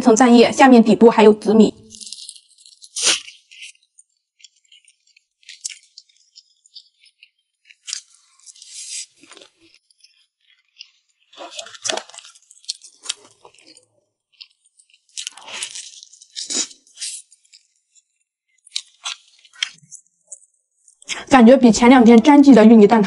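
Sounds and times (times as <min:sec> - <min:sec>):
close-miked chewing: 0:01.8 - 0:21.2.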